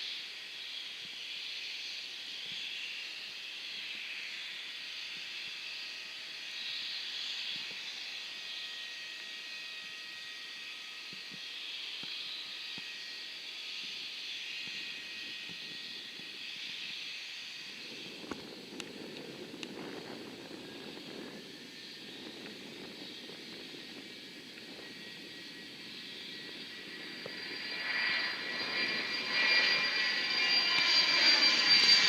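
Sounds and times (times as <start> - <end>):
distant jet engines whining: 0.1 - 32.0.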